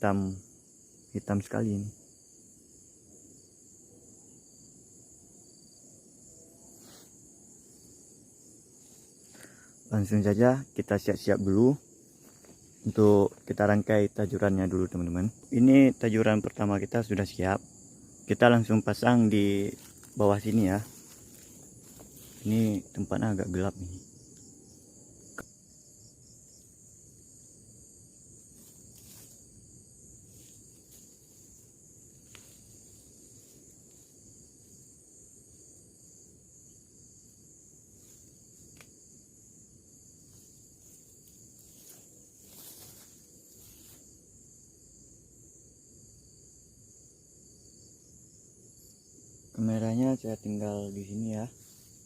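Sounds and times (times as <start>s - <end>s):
high-pitched insect chorus: 0.0s - 52.0s.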